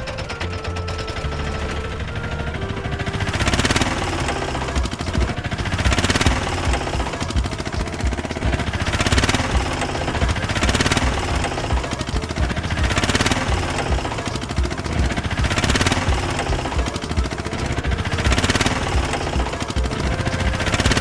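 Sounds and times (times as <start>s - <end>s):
small engine knocking rapidly: 0.0s - 21.0s.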